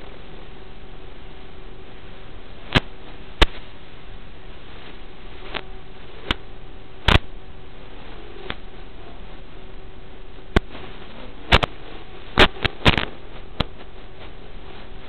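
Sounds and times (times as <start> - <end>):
faint hum: 0.0 - 15.0
static hiss: 0.0 - 15.0.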